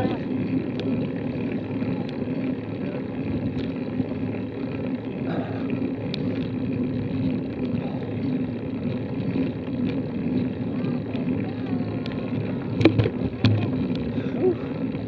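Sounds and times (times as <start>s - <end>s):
wind and riding noise rumble: 0.0s - 15.0s.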